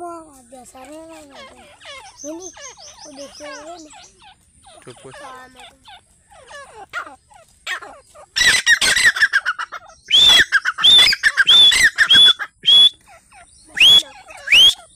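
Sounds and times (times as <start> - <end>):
bird chattering notes: 0.3 - 14.9
bird calls sweeping up: 1.2 - 14.9.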